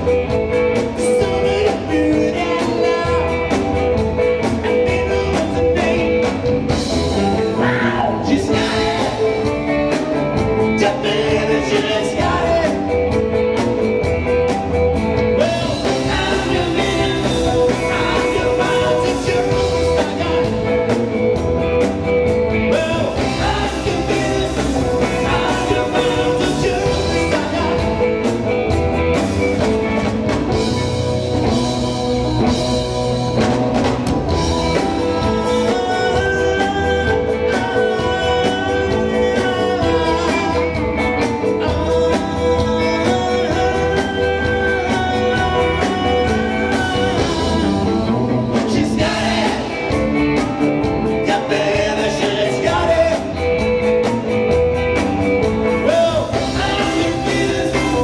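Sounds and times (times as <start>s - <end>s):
man singing: 0.0s - 13.9s, 15.2s - 21.4s, 22.5s - 28.7s, 34.3s - 53.9s, 55.6s - 58.0s
drum kit: 0.0s - 58.0s
electric guitar: 0.0s - 58.0s.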